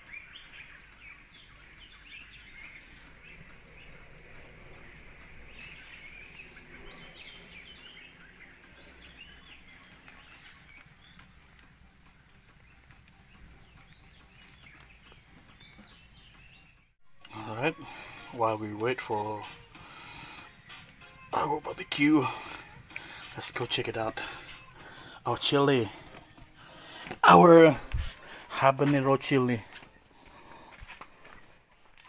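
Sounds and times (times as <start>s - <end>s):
high insect-like drone: 0.0s - 14.6s, 17.3s - 31.4s
small birds chirping: 0.0s - 32.0s.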